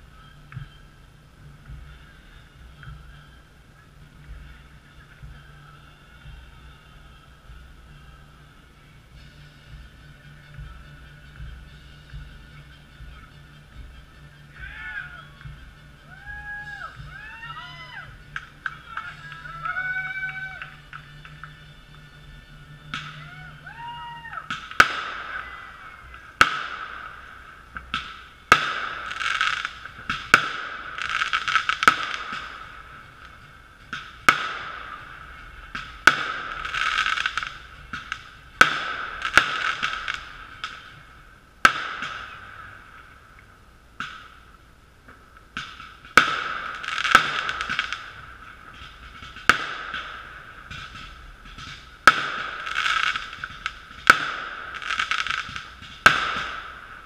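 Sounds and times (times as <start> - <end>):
firework sparks crackling: 0.0 - 57.0
fireworks bangs: 0.0 - 57.0.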